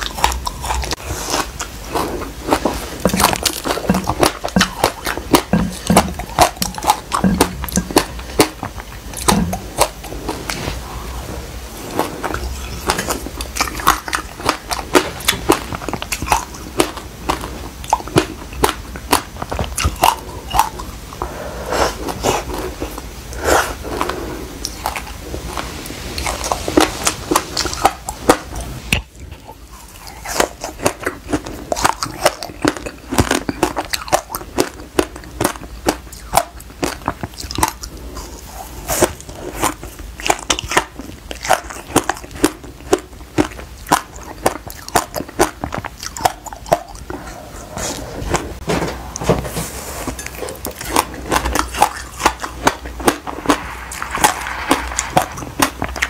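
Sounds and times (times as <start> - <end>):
crisp crunching while chewing: 0.0 - 21.3, 21.9 - 48.6, 50.1 - 56.0.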